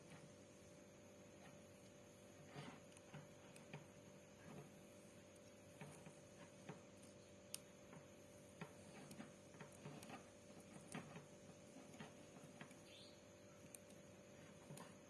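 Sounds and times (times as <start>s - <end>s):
wires clicking and rustling: 1.3s - 15.0s.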